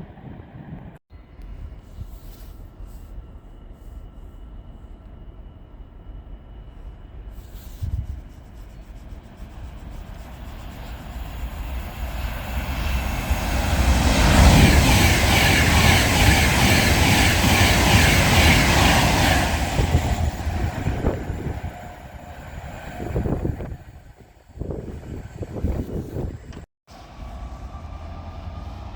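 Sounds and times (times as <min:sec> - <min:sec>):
train passing on rails: 0:00.0 - 0:28.9.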